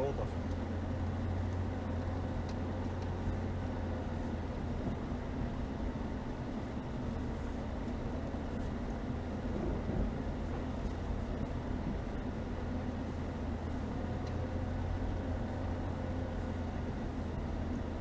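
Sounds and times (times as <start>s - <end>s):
car engine running steadily: 0.0s - 18.0s.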